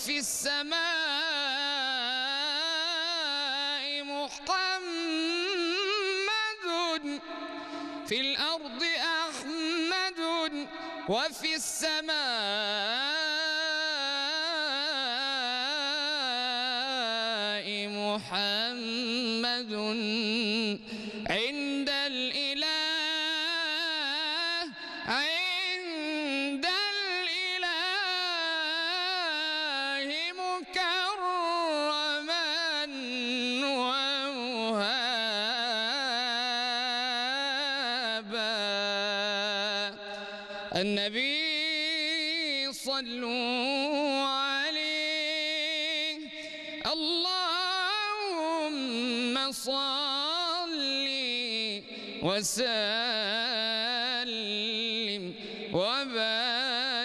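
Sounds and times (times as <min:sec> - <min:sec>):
man singing unaccompanied: 0:00.0 - 0:57.0.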